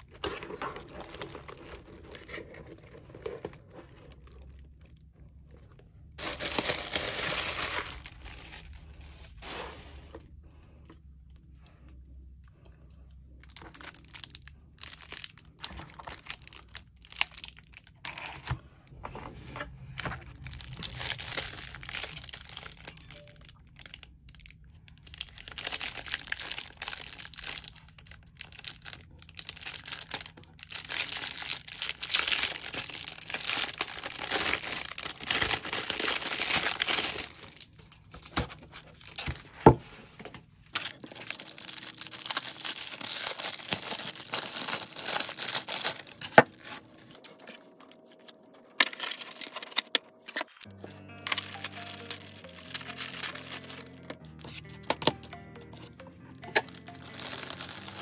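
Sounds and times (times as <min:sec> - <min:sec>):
packaging crinkling: 0:00.0 - 0:10.2, 0:13.4 - 0:18.7, 0:19.6 - 0:39.8, 0:40.7 - 0:55.3, 0:56.4 - 0:58.0.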